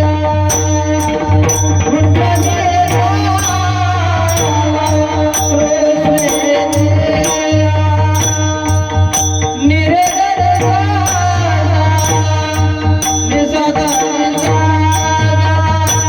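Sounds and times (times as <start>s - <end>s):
jingling percussion: 0.0s - 16.0s
person singing long notes: 0.0s - 16.0s.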